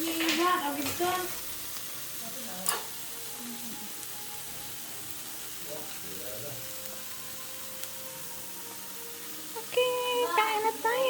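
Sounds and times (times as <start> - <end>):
food sizzling on grill plate: 0.0 - 11.0.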